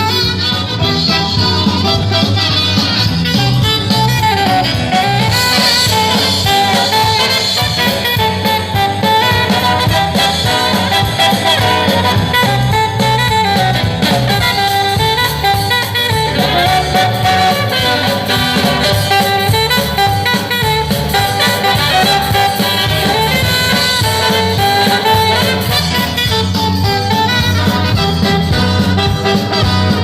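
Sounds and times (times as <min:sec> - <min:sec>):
swing jazz band playing: 0:00.0 - 0:30.0.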